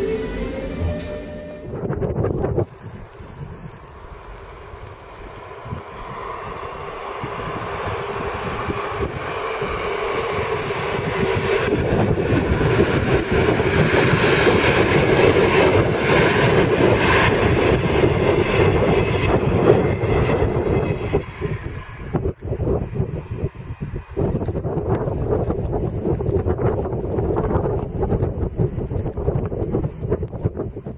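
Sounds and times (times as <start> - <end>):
locomotive engine drone: 0.0 - 26.2
train rolling rumble: 0.0 - 30.9.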